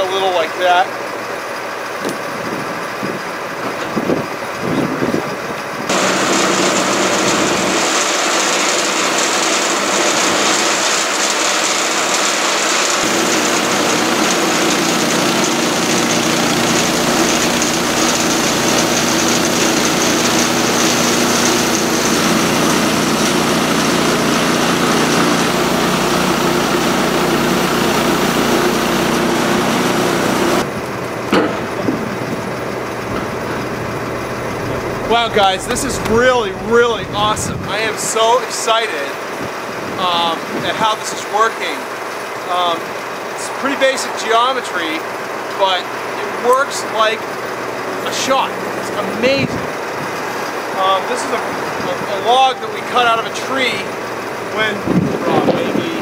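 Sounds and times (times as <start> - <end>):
gas engine running: 0.0 - 56.0
band saw cutting wood: 5.9 - 56.0.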